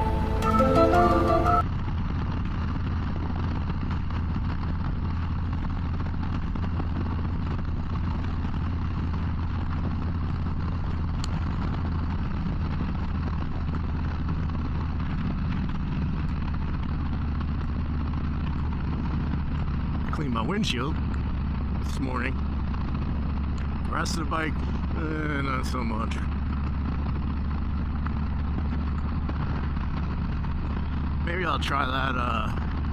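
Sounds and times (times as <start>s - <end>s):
motorcycle engine cruising: 0.0s - 32.9s
road and wind rush: 0.0s - 32.9s.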